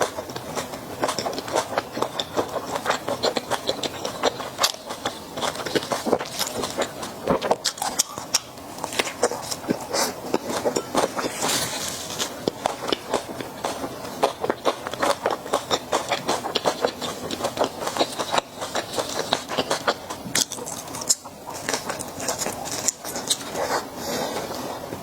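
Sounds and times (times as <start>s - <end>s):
wet chewing clicks and smacks: 0.0s - 23.9s.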